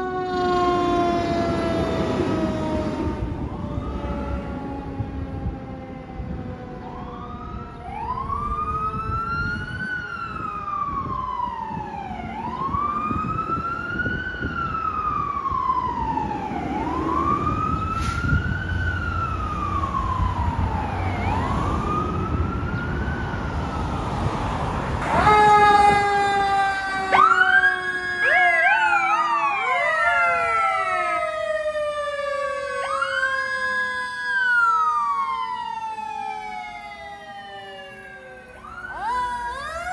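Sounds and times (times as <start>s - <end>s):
diesel engines rumbling: 0.0s - 39.9s
fire truck sirens wailing: 0.0s - 39.9s.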